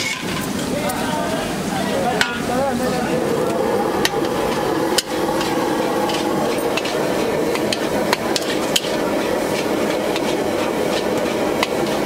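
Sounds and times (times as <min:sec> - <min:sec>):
steady sizzling hiss: 0:00.0 - 0:12.0.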